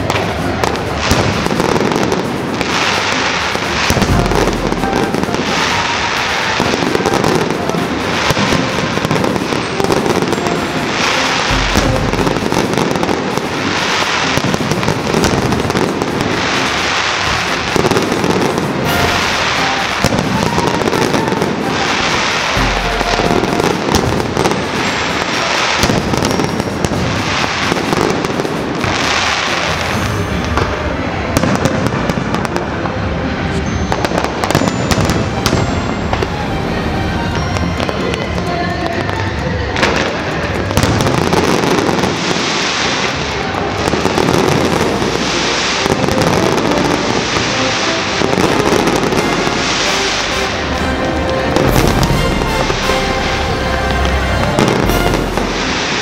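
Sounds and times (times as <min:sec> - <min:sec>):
fireworks bursting and crackling: 0:00.0 - 0:56.0
loud firework bursts: 0:00.0 - 0:56.0.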